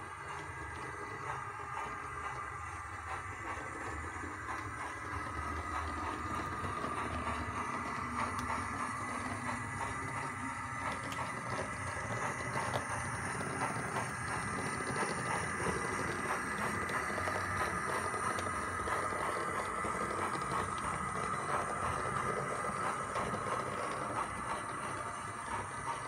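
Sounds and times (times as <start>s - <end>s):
model locomotive motor whirring: 0.0s - 26.0s.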